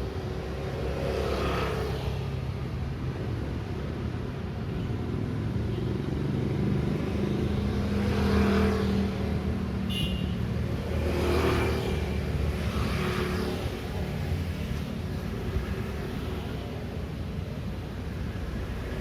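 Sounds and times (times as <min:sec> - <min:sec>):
traffic engine drone: 0:00.0 - 0:19.0
vehicles passing: 0:00.0 - 0:19.0.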